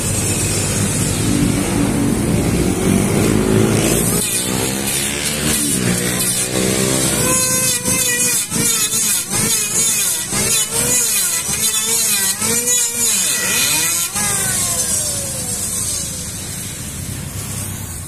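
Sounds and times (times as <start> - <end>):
electric planer shaving wood: 0.0 - 18.0.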